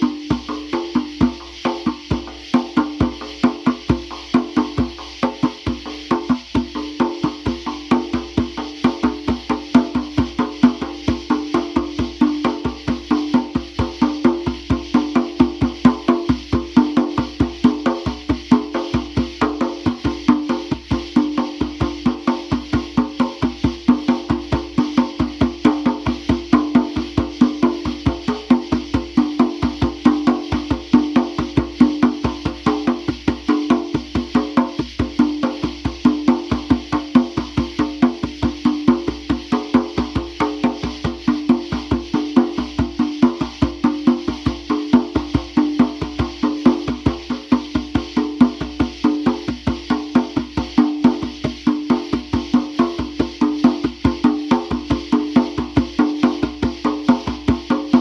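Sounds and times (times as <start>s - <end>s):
hand drum fast rhythm: 0.0s - 58.0s.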